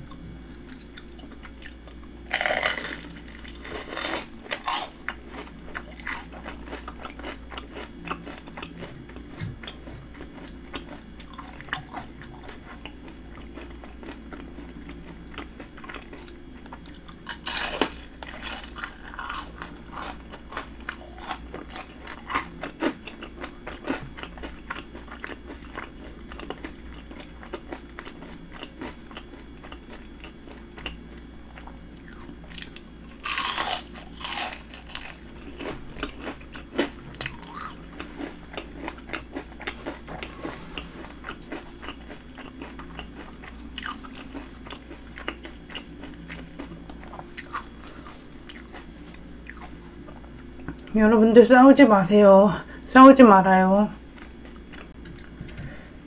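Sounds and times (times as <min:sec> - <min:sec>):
crunchy chewing of fried food: 0:00.0 - 0:51.0, 0:54.0 - 0:56.0.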